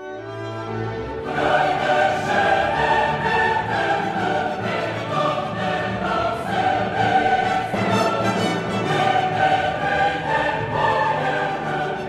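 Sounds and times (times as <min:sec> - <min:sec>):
orchestra: 0:00.0 - 0:12.0
choir singing operatic: 0:00.7 - 0:12.0.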